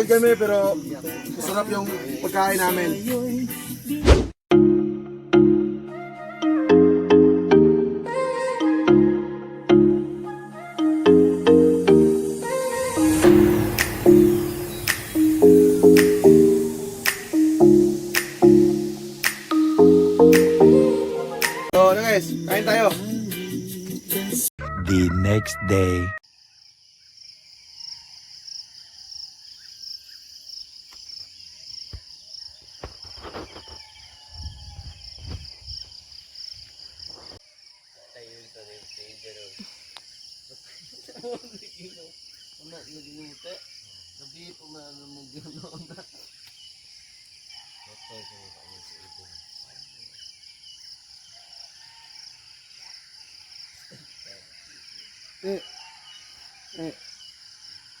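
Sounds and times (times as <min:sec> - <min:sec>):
insects chirping: 0:00.0 - 0:04.0, 0:09.7 - 0:24.5, 0:26.2 - 0:58.0.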